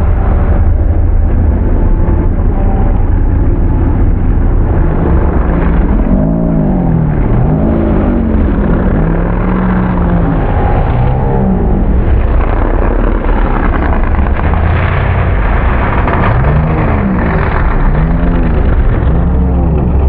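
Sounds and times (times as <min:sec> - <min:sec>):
dense low rumble: 0:00.0 - 0:20.0
truck engine revving: 0:00.0 - 0:20.0.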